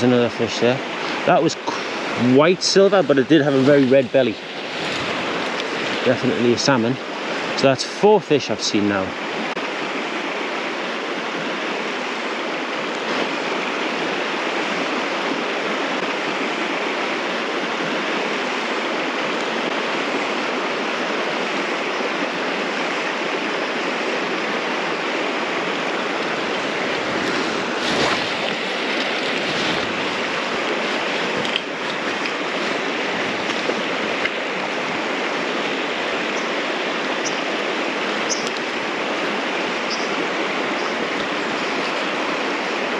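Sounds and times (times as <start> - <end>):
river water rushing over stones: 0.0 - 42.9.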